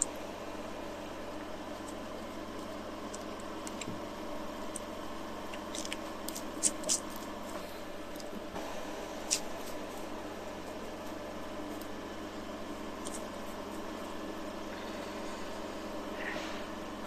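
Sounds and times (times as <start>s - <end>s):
equipment hum: 0.0s - 17.0s.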